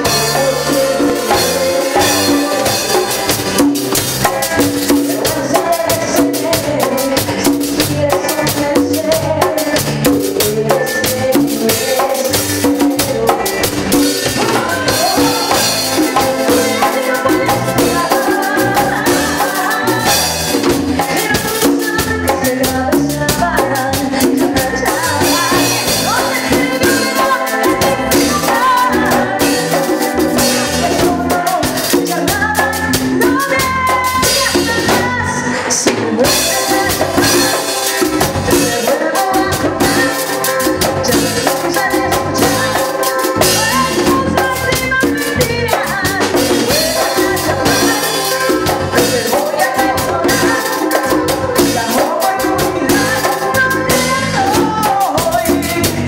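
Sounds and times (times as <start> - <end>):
drum kit beat: 0.0 - 56.0
upbeat band music: 0.0 - 56.0.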